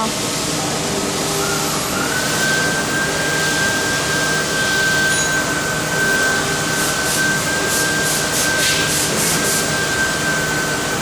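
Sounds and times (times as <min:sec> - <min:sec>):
router machinery high whine: 0:00.0 - 0:11.0.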